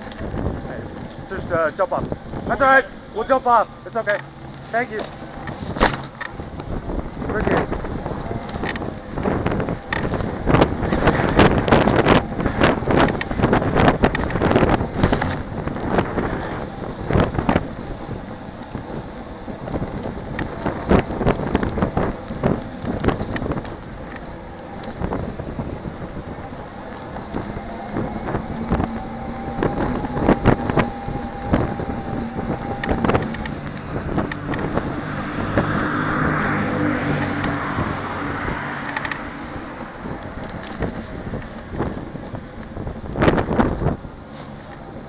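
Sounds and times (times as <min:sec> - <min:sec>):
wind on microphone: 0:00.0 - 0:03.2, 0:05.2 - 0:45.0
low hum: 0:00.0 - 0:45.0
steady high whine: 0:00.0 - 0:45.0.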